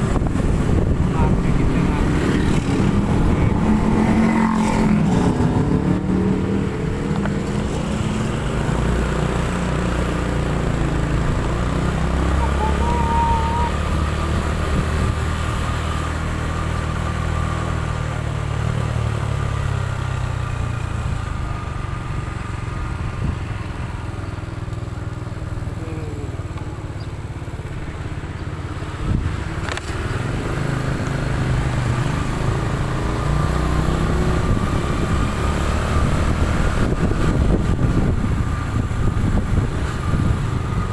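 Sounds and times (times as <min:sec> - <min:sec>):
motorcycle engine rumble: 0:00.0 - 0:40.9.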